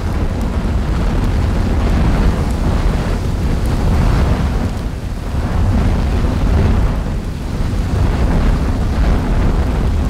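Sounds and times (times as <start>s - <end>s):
lava fountain deep rumble: 0.0s - 10.0s.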